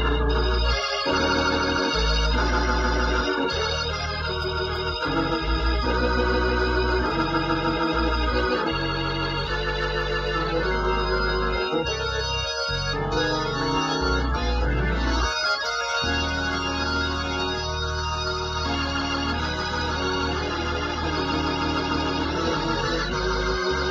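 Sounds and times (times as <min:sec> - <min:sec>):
organ chords through rotating speaker: 0:00.0 - 0:23.9.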